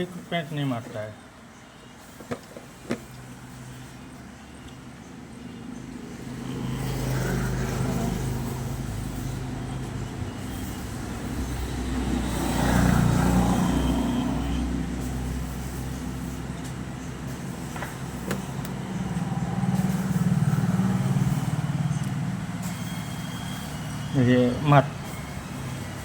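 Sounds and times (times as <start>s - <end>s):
vehicle engine running: 2.4s - 26.0s.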